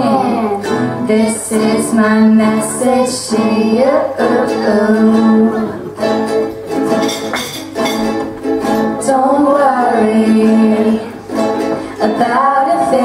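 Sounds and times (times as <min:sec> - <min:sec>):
young women singing: 0:00.0 - 0:06.3, 0:08.7 - 0:13.0
strummed acoustic guitar: 0:00.0 - 0:13.0
ukulele: 0:00.0 - 0:13.0.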